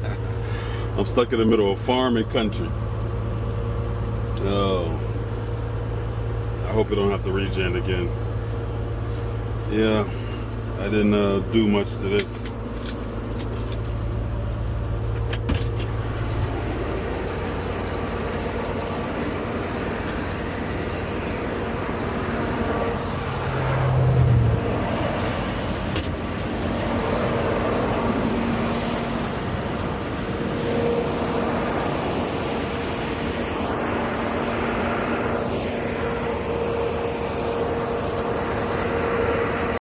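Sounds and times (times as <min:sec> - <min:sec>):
diesel truck engine running: 0:00.0 - 0:39.8.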